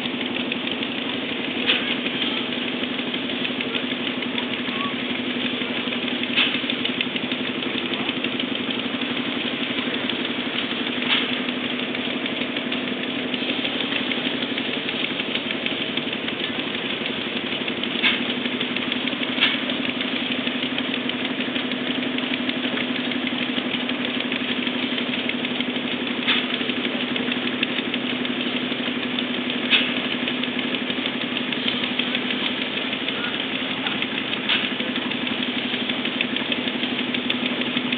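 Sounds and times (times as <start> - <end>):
engine humming steadily: 0.0 - 37.9
sharp clicks: 0.0 - 37.9.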